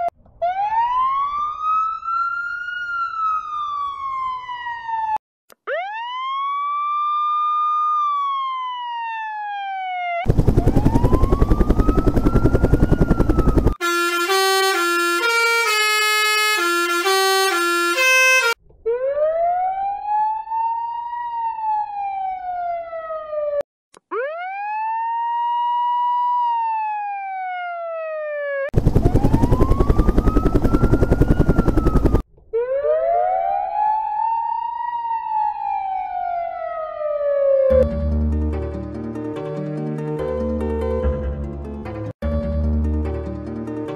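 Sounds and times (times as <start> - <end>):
rapid pulsing siren: 0.0 - 37.8
wailing sirens: 0.0 - 38.0.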